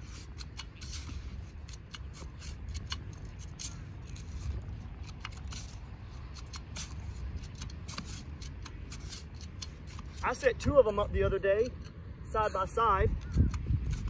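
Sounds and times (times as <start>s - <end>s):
shovel digging into sand: 0.0s - 14.0s.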